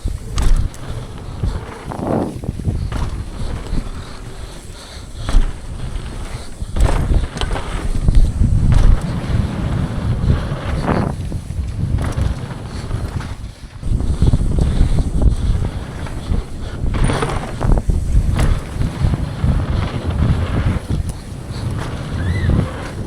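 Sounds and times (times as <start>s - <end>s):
bike clunks and rattles: 0.0s - 23.0s
tyres rumbling on dirt trail: 0.0s - 23.0s
wind buffeting microphone: 0.0s - 23.0s.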